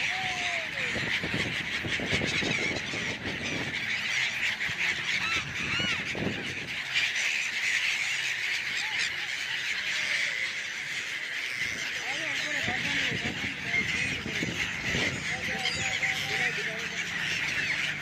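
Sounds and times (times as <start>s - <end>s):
flock of gulls calling: 0.0s - 18.0s
single gull calls: 0.0s - 18.0s
wings flapping: 0.0s - 18.0s.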